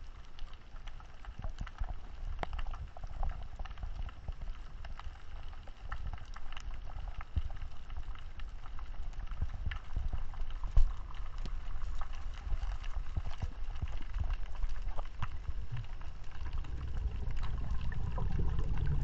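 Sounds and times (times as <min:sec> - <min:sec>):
sharp clicks and crackles: 0:00.0 - 0:19.0
underwater rumble of moving water: 0:00.0 - 0:19.0.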